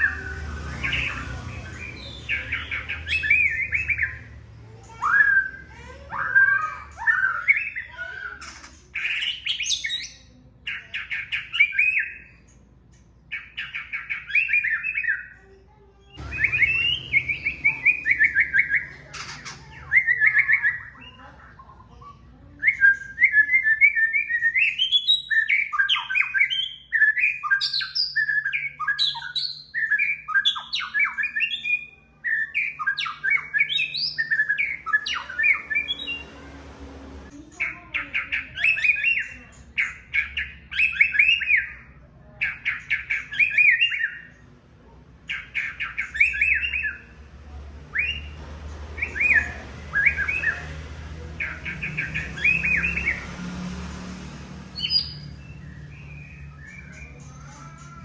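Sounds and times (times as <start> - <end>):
bird singing trilled phrases: 0.0 - 36.4, 37.3 - 44.5, 45.2 - 47.2, 47.9 - 53.4, 54.7 - 58.0.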